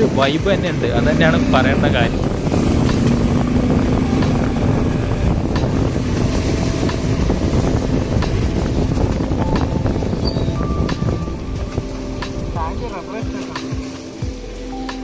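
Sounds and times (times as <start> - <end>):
vehicle travelling along road: 0.0 - 15.0
wind buffeting microphone: 0.0 - 15.0.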